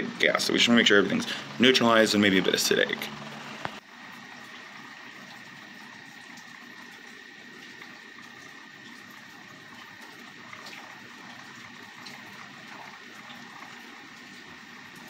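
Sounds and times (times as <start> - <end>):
liquid swirling: 0.9 - 15.0.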